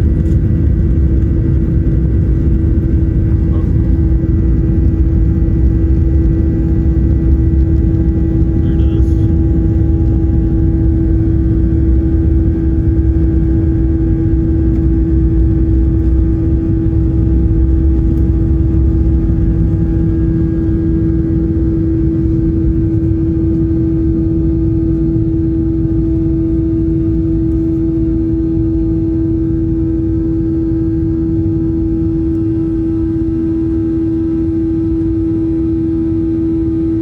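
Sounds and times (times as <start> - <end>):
jet engines heard in cabin: 0.0 - 37.0.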